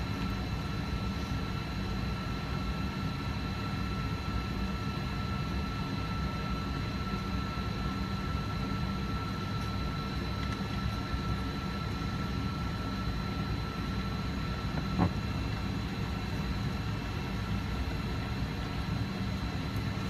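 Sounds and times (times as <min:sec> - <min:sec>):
jet engines idling in cabin: 0:00.0 - 0:20.0
steady engine whining tones: 0:00.0 - 0:20.0.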